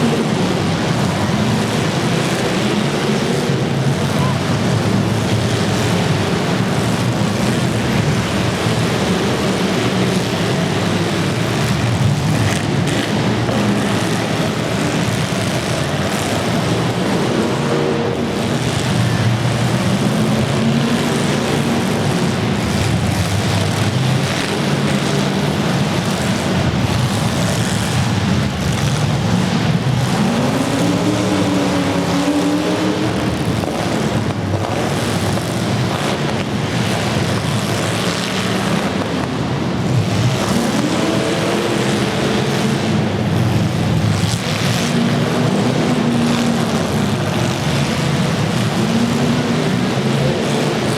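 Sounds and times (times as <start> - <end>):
car engines revving loudly: 0.0 - 50.9.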